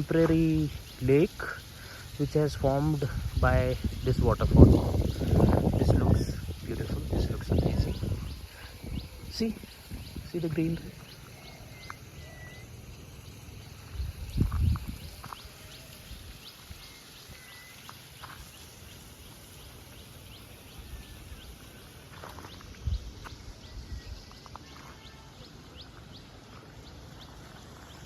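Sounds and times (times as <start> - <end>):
outdoor hiss: 0.0 - 28.0.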